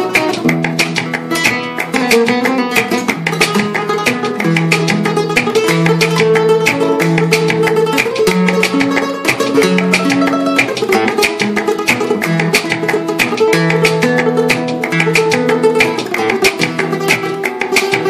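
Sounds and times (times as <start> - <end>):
acoustic flamenco guitar strumming: 0.0 - 18.0.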